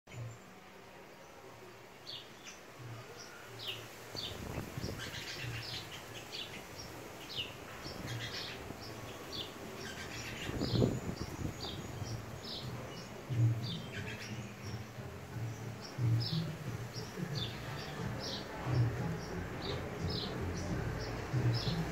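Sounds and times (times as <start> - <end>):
small birds chirping: 0.1 - 21.9.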